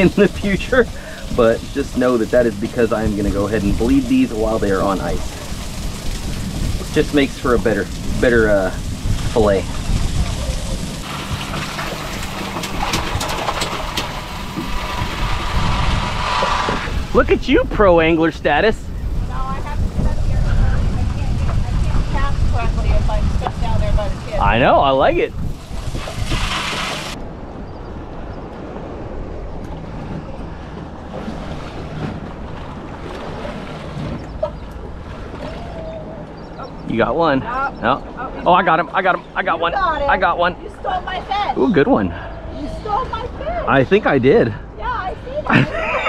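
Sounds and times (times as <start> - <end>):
wind rumbling on microphone: 0.0 - 44.0
water washing around boat: 0.0 - 46.0.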